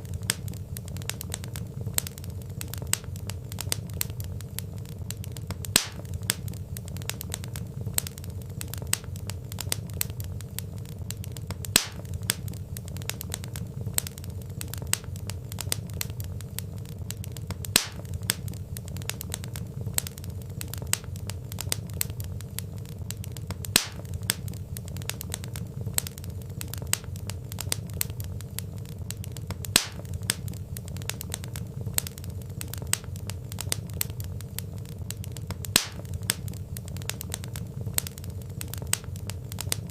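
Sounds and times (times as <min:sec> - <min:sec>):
logs popping and snapping: 0:00.0 - 0:39.9
low steady rumble: 0:00.0 - 0:39.9.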